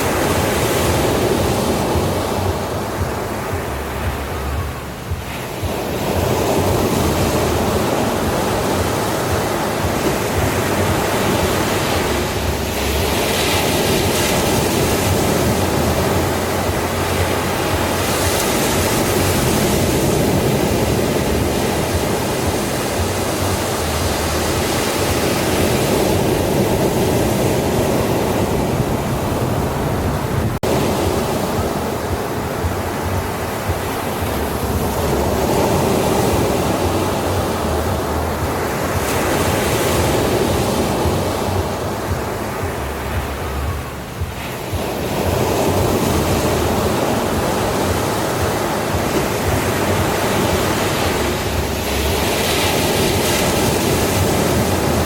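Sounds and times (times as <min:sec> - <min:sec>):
ocean surf rushing onto beach: 0:00.0 - 0:55.0.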